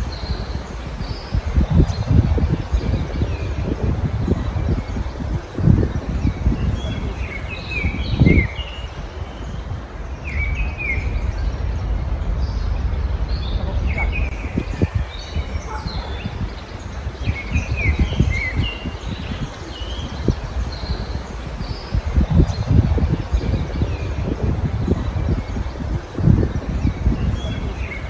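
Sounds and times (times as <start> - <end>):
songbirds chirping and trilling: 0.0 - 28.0
steady low rumble: 0.0 - 28.0.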